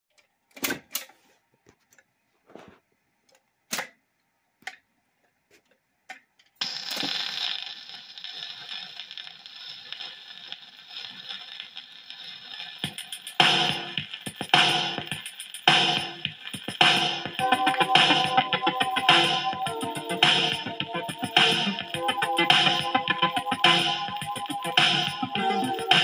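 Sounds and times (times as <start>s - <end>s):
record hiss and crackle: 0.1s - 26.0s.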